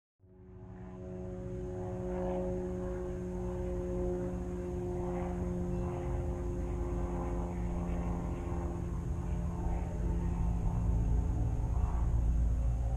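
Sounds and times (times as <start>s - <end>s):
diesel train engine drone: 0.2s - 12.9s.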